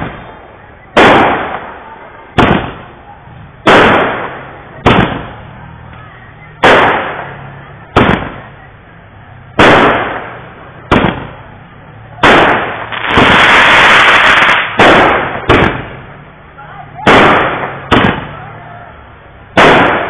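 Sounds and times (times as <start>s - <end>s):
fireworks bangs with rumbling echo: 0.0s - 18.6s, 19.4s - 20.0s
loud continuous rush of noise: 0.0s - 20.0s.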